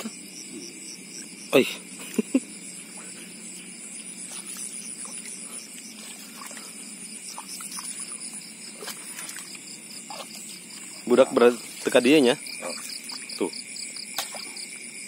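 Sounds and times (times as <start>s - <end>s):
insects and frogs pulsing chirr: 0.0s - 15.0s.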